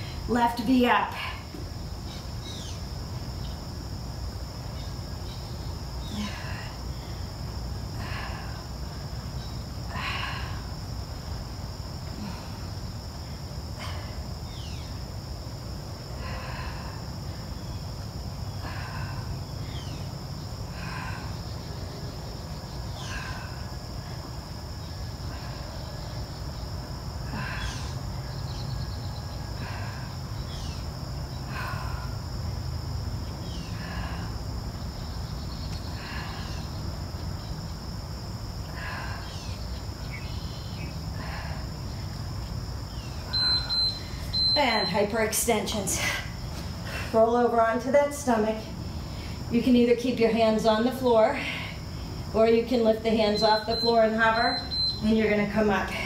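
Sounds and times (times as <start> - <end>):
insect chirring: 0.0 - 56.0
low steady hum: 0.0 - 56.0.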